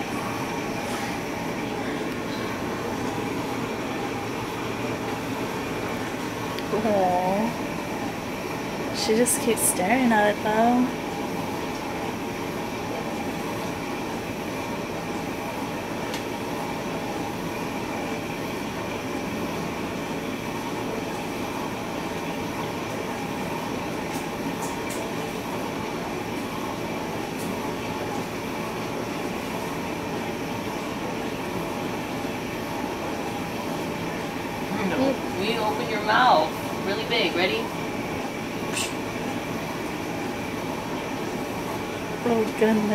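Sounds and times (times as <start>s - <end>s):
fan hum and hiss: 0.0s - 42.9s.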